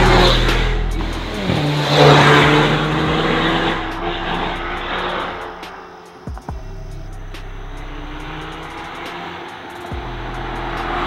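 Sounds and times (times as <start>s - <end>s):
car engine driving away: 0.0s - 11.0s.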